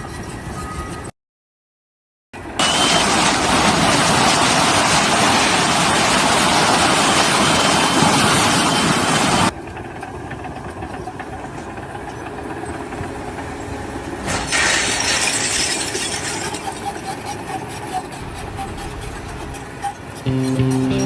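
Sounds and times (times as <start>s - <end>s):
machinery running with noisy rumble: 0.0s - 1.1s, 2.4s - 21.0s.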